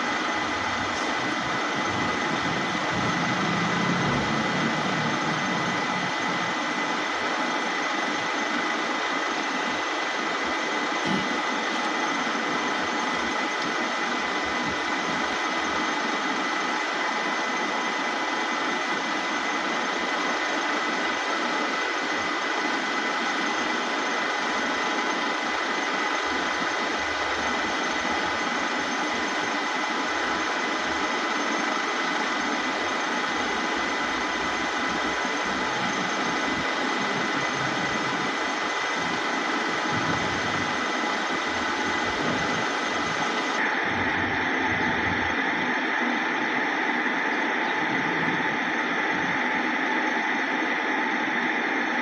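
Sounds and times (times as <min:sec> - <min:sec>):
milling machine running: 0:00.0 - 0:52.0.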